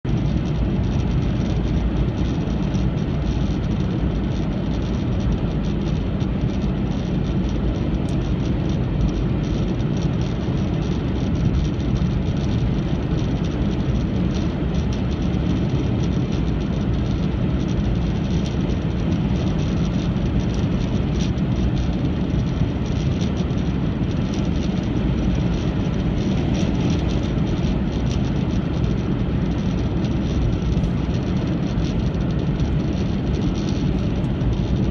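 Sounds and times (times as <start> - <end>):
road and wind noise in car: 0.0 - 34.9
faint ticks: 0.2 - 23.6, 24.2 - 34.8.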